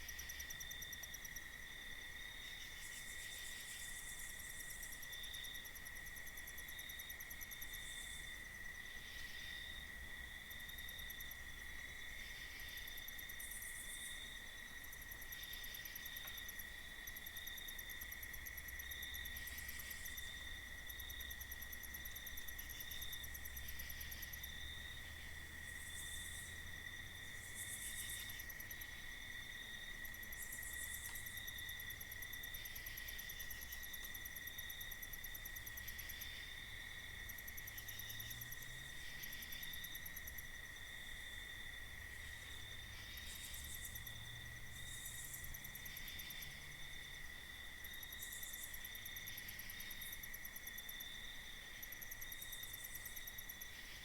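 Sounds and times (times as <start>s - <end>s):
cricket trill: 10.4s - 54.0s.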